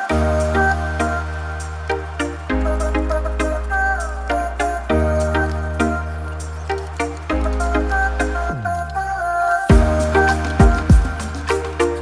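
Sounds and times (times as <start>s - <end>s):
soft instrumental music: 0.0s - 9.0s, 9.7s - 12.0s.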